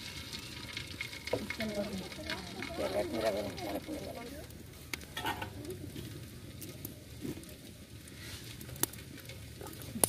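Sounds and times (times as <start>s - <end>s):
oil crackling in a pan: 0.0s - 10.0s.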